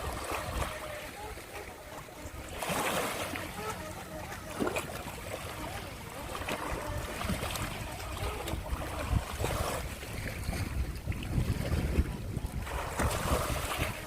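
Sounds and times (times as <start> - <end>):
waves washing: 0.0 - 14.0
wind buffeting microphone: 0.0 - 14.0.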